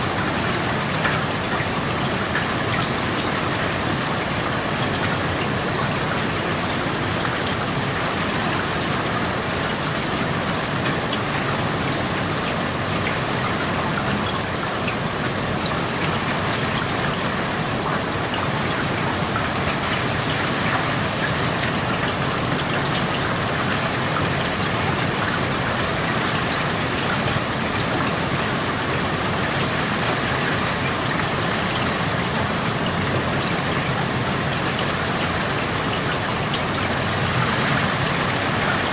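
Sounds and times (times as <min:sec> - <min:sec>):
raindrops pattering on surfaces: 0:00.0 - 0:38.9
steady rain hiss: 0:00.0 - 0:38.9.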